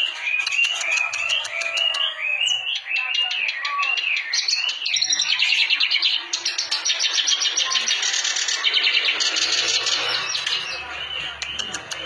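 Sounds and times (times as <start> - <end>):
reed warbler chattering song: 0.0 - 12.0.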